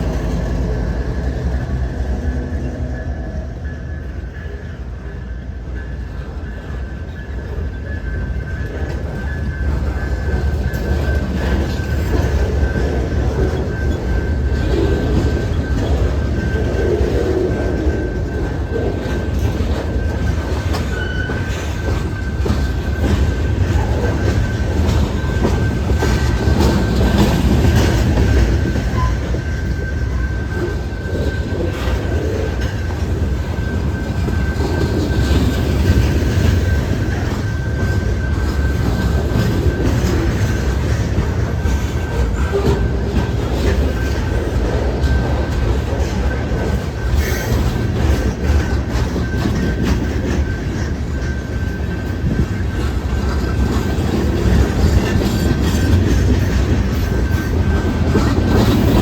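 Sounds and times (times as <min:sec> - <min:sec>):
freight train rumble: 0:00.0 - 0:59.0
train wheels clacking over rail joints: 0:04.3 - 0:59.0.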